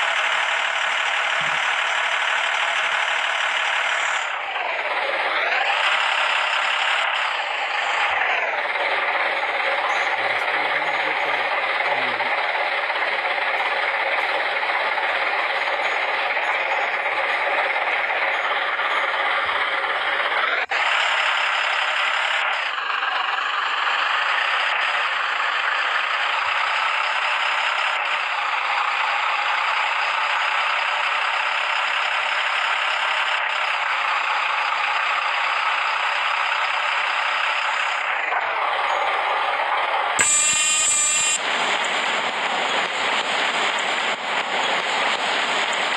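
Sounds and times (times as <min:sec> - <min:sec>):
heavy machinery running: 0:00.0 - 0:45.9.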